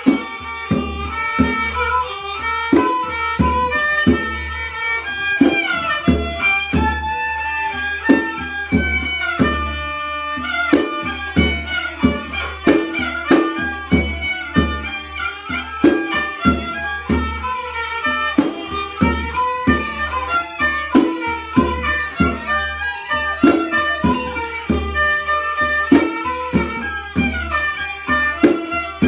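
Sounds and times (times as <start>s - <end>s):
bowed fiddle melody: 0.0s - 29.0s
hand drum beat: 0.0s - 29.0s.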